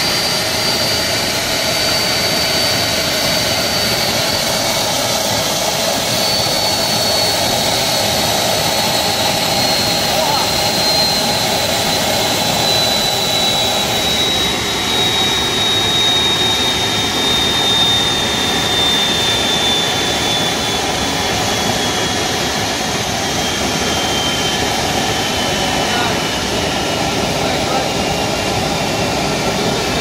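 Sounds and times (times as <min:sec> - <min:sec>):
jet engine starter roar and whine: 0:00.0 - 0:30.0.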